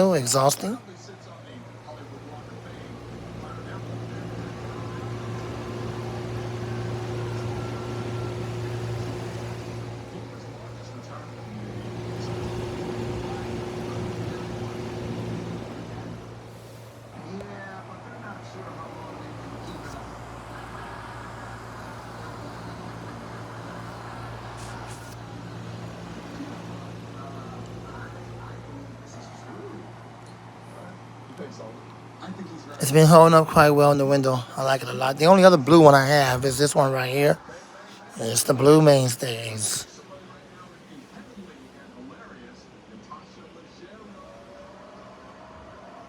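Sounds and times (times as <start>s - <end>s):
box fan motor hum: 0.0s - 39.9s.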